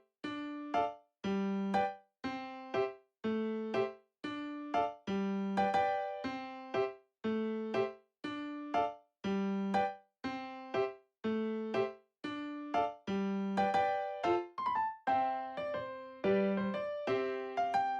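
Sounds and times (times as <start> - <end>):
light keyboard tune: 0.2 - 17.9.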